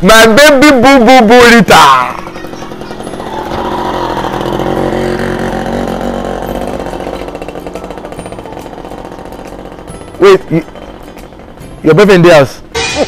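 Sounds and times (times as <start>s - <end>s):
small engine running: 1.9s - 12.8s.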